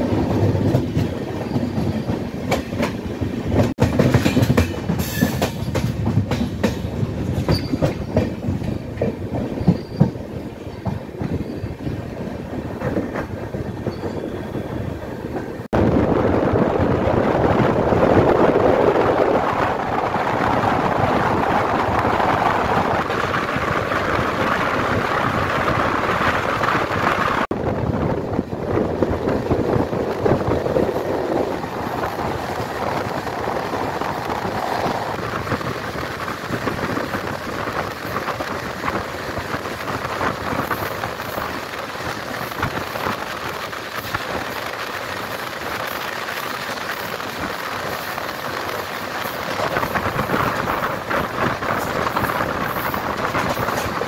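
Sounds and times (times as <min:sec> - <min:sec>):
train wind and running noise: 0:00.0 - 0:54.0
wind on microphone: 0:00.0 - 0:54.0.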